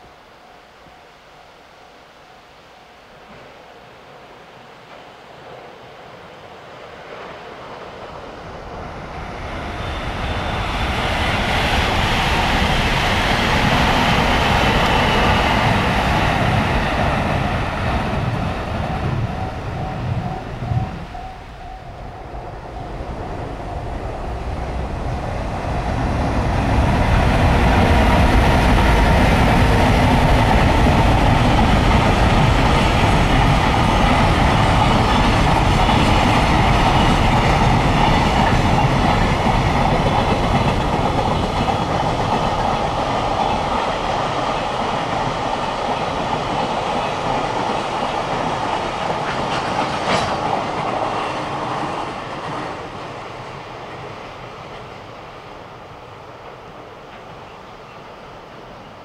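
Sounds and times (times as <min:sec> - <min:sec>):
train wheels rumbling on rails: 0:03.1 - 0:59.0.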